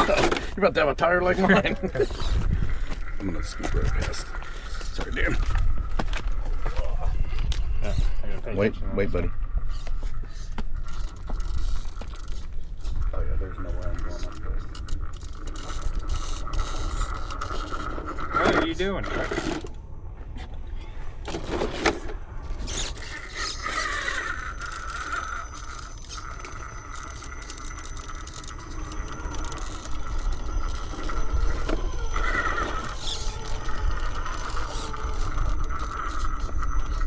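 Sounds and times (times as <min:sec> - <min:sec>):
toy car electric motor whining: 0:00.0 - 0:19.8, 0:21.2 - 0:37.0.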